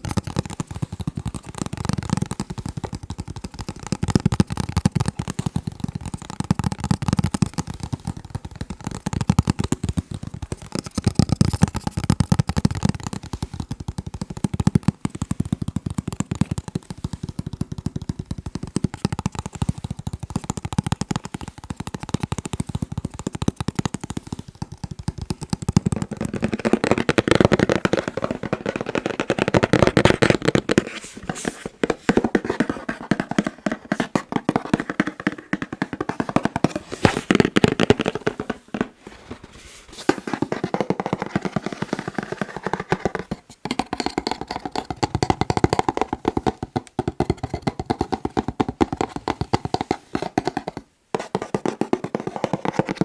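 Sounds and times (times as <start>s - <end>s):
fingertips tapping on a box: 0.0s - 39.4s, 40.0s - 53.0s.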